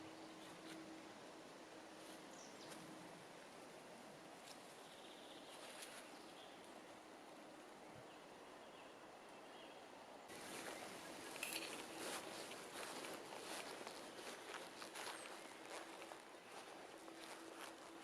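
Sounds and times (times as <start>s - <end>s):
outdoor ambience: 0.0s - 18.0s.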